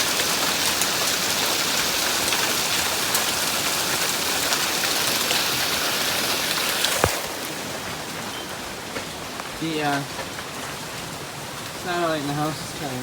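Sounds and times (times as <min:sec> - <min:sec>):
hailstones ticking: 0:00.0 - 0:13.0
heavy rain and hail: 0:00.0 - 0:13.0.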